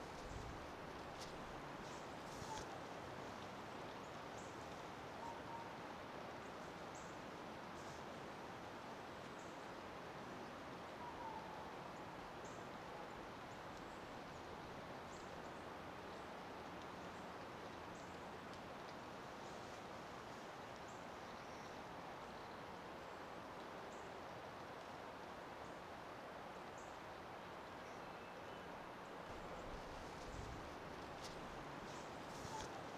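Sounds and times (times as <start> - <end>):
outdoor background hiss: 0.0 - 32.9.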